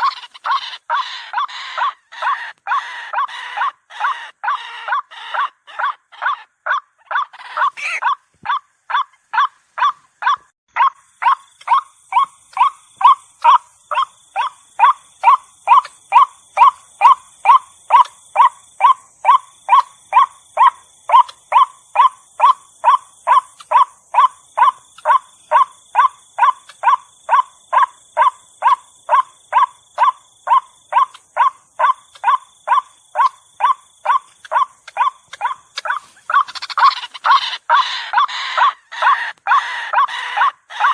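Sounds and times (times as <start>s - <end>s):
waterhen calling repeated notes: 0.0s - 40.9s.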